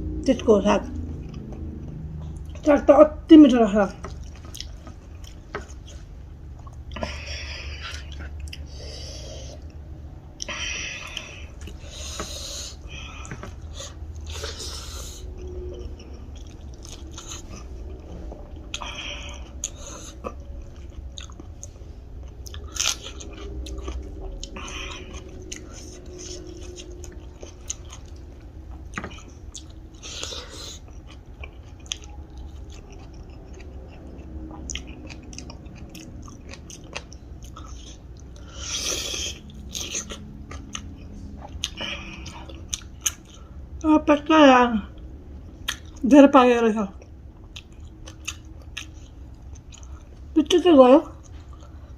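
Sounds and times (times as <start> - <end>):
person chewing crunchy food: 4.0 - 43.8, 45.0 - 46.0, 46.9 - 50.4, 51.1 - 51.9.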